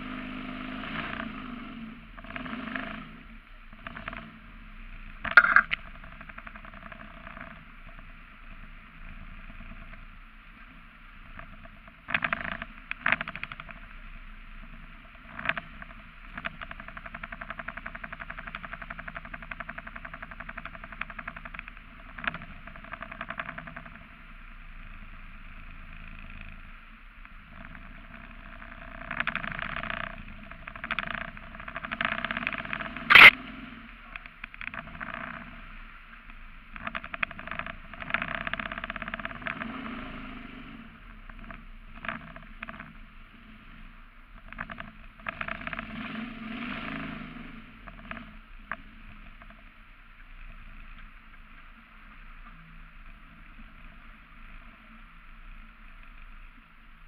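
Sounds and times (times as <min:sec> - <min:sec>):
boat motor running: 0:00.0 - 0:56.6.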